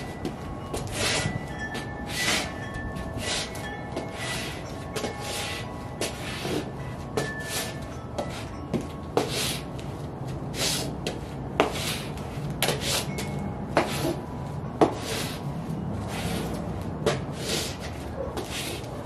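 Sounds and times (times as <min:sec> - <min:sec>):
boot soles tapping on concrete: 0:00.0 - 0:19.0
gritty scuffs and scrapes: 0:00.0 - 0:19.0.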